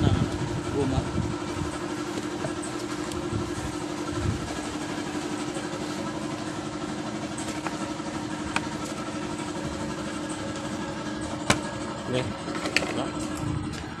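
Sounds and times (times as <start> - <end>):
small motorcycle engine idling: 0.0 - 14.0.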